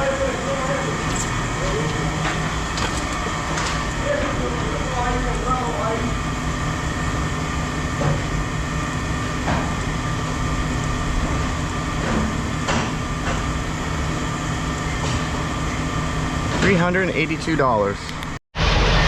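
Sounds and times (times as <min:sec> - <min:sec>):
machinery rumble: 0:00.0 - 0:19.0.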